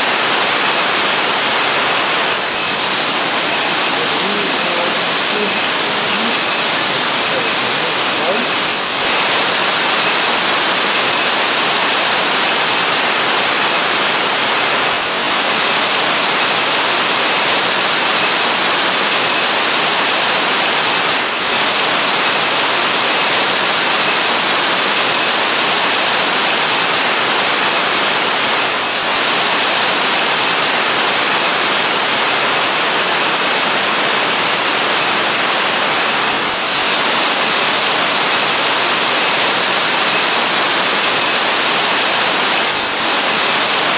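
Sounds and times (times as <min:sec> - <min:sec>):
waterfall roaring: 0:00.0 - 0:43.9.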